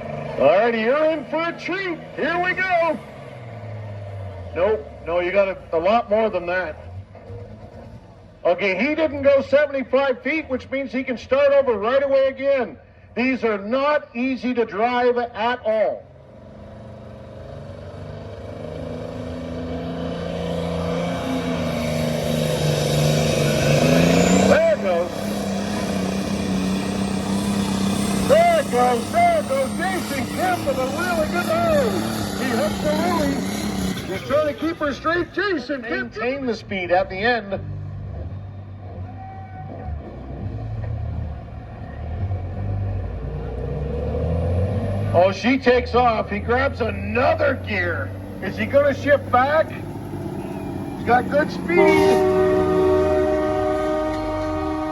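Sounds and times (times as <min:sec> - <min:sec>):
vehicle engine running deep: 0:00.0 - 0:11.2, 0:15.7 - 0:54.9.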